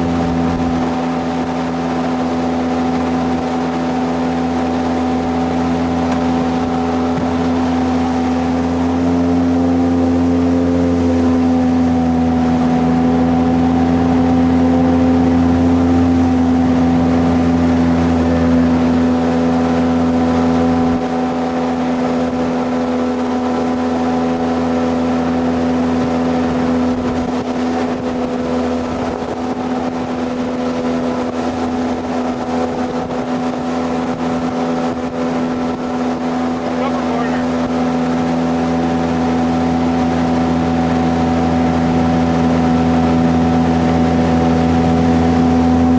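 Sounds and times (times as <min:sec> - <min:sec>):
jet boat engine running: 0:00.0 - 0:45.9.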